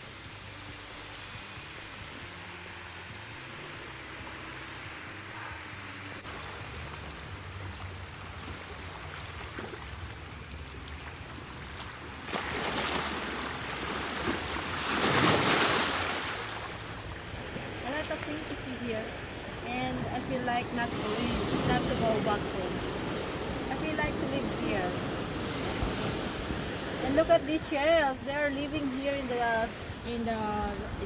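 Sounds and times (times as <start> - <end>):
sea waves on rocky shore: 0.1 - 31.0.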